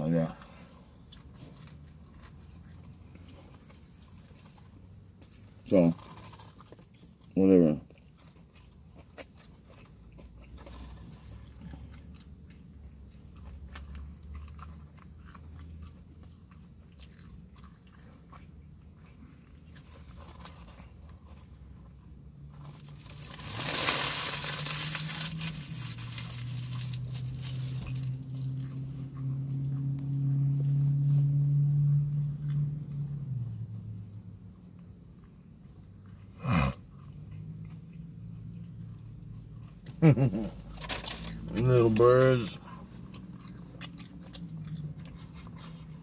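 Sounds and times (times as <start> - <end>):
person chewing and crunching: 0.0 - 46.0.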